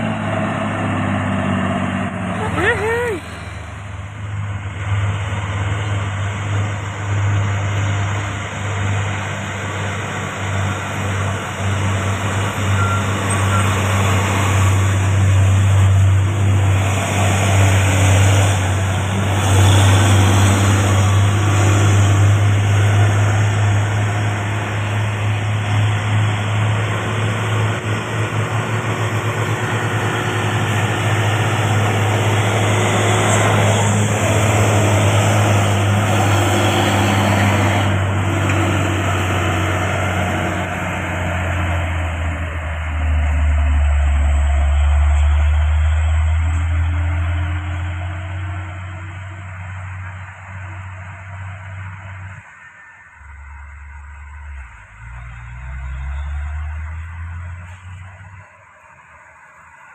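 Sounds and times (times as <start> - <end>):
vehicles driving past: 0.0 - 59.9.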